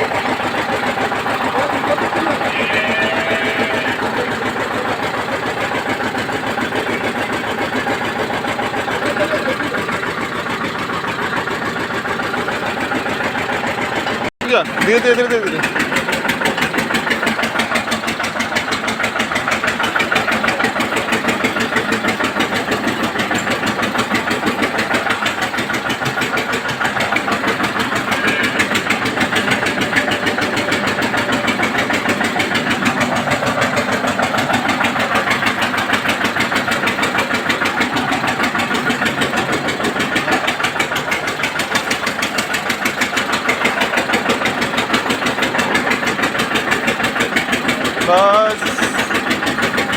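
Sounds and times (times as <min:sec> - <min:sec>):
engine running with fast beat: 0:00.0 - 0:49.9.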